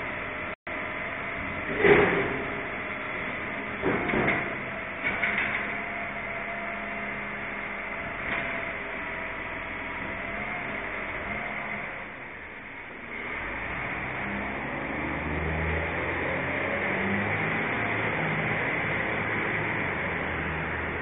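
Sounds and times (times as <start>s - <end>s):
truck engine and hydraulic drone: 0.0s - 21.0s.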